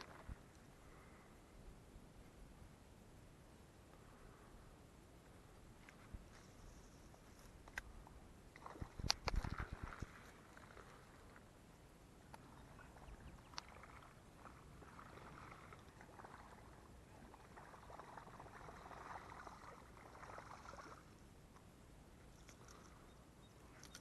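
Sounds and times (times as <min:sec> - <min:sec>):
faint water noise: 0:00.0 - 0:24.0.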